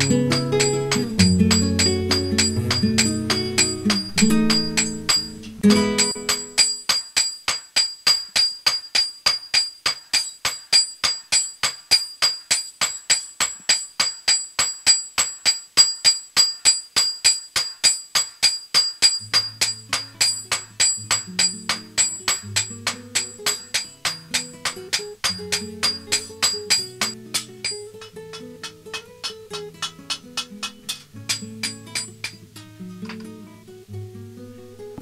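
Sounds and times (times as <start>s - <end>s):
hammer striking metal on anvil: 0.0s - 32.4s.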